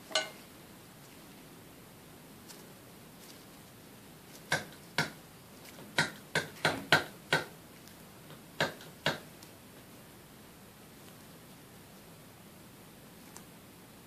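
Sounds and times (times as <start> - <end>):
faint room background: 0.0 - 14.0.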